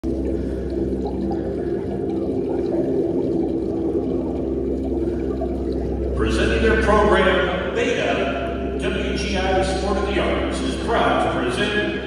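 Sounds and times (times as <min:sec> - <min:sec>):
background rumble: 0:00.0 - 0:12.0
low hum: 0:00.0 - 0:12.0.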